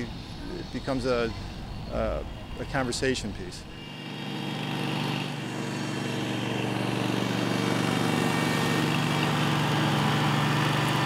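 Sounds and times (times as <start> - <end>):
mower engine running: 0.0 - 11.0.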